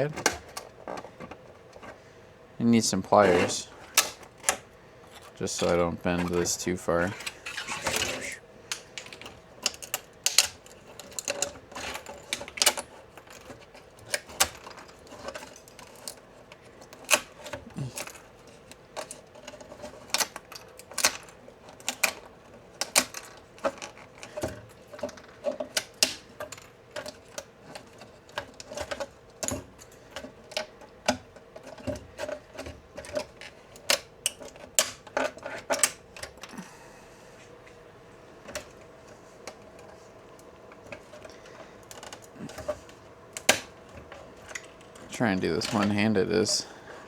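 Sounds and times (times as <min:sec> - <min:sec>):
plastic snapping and cracking: 0:00.0 - 0:02.0, 0:03.8 - 0:06.5, 0:07.1 - 0:36.6, 0:38.4 - 0:46.0.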